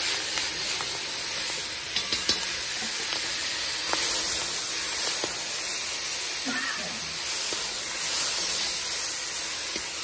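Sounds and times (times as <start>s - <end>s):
chicken sizzling in a pot: 0.0s - 10.0s.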